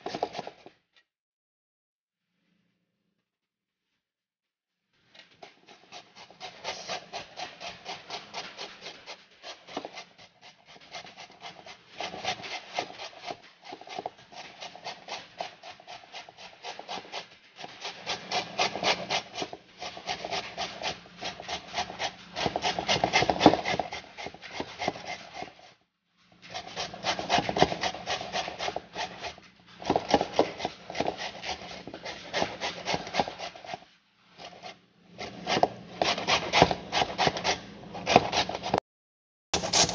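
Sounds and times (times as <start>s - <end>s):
grater scraping fruit: 0.0s - 0.7s, 5.2s - 25.8s, 26.4s - 38.8s, 39.6s - 39.9s.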